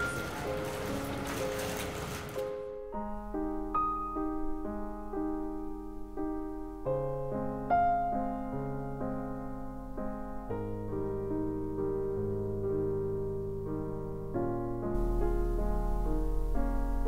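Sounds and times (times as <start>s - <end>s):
soft piano chords: 0.0s - 17.0s
low piano bass notes: 2.6s - 17.0s.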